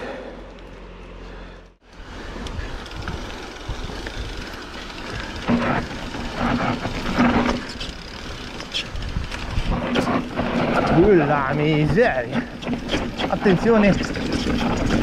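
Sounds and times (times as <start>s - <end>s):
tyres on dirt and rocks: 0.0s - 15.0s
bike rattling and clattering: 1.9s - 15.0s.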